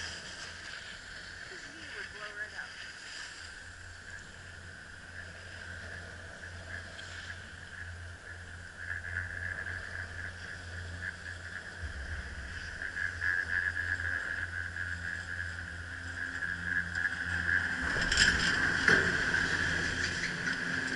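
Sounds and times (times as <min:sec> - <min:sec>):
low machinery hum: 0:00.0 - 0:20.9
chairlift machinery whine: 0:03.4 - 0:20.9.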